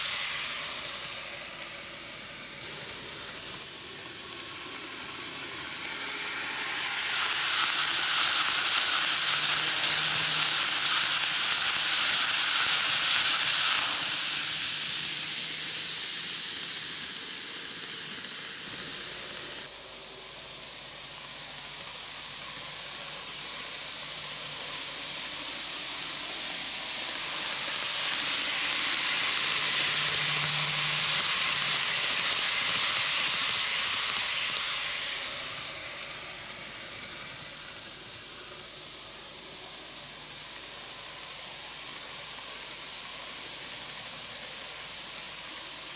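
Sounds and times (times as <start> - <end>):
model train running on track: 0.0 - 45.9.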